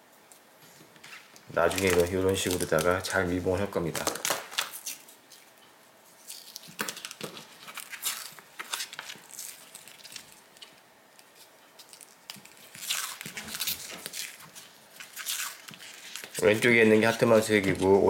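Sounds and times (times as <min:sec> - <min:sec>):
plastic bag crinkling: 0:01.5 - 0:05.4, 0:06.2 - 0:18.0.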